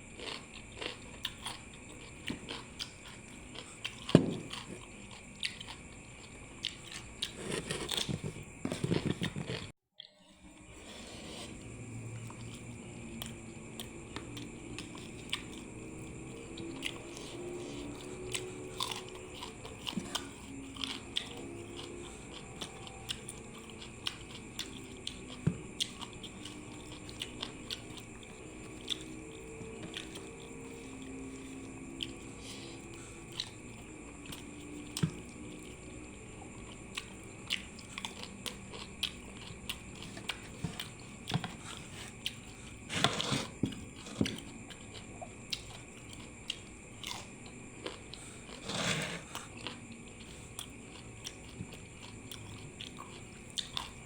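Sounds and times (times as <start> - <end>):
chewing and biting: 0.0 - 10.7, 11.6 - 54.0.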